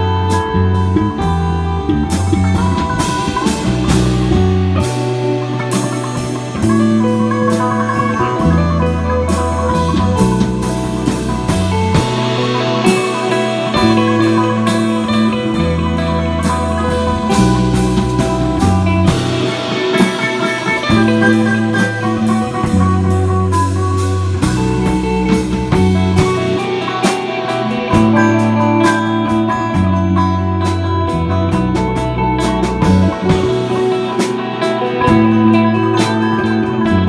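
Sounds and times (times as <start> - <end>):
cigar box guitar: 0.0 - 37.0
drum kit steady beat: 0.0 - 37.0
electric bass low notes: 0.0 - 37.0
electric guitar: 0.0 - 37.0.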